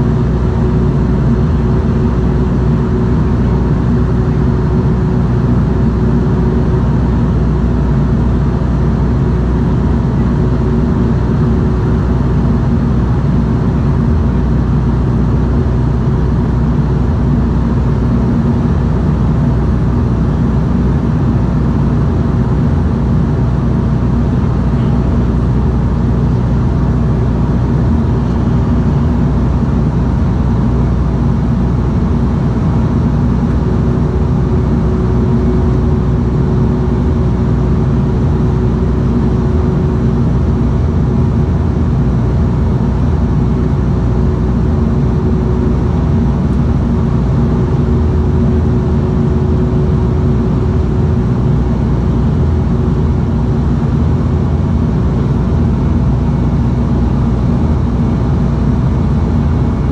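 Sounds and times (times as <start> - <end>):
turboprop engine drone: 0.0 - 59.9.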